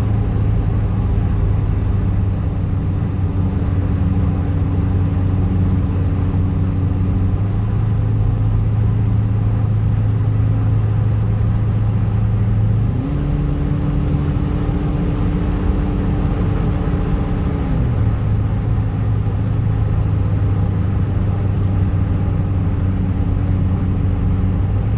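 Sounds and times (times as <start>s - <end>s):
car engine droning: 0.0s - 24.9s.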